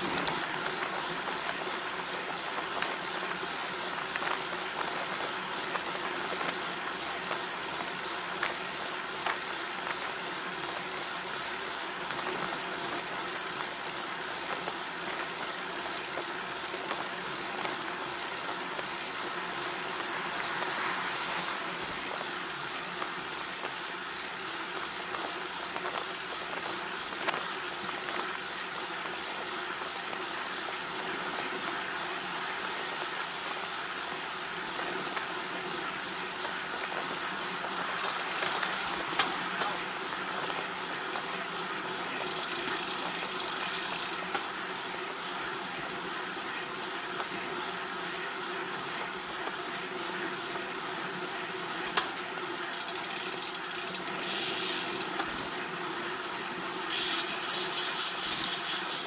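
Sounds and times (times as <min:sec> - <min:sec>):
road noise rushing: 0:00.0 - 0:59.0.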